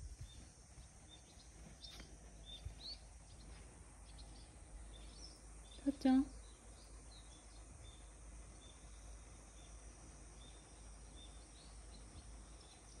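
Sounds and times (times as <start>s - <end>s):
distant bird chirping: 0.0s - 13.0s
faint outdoor ambience: 0.0s - 13.0s.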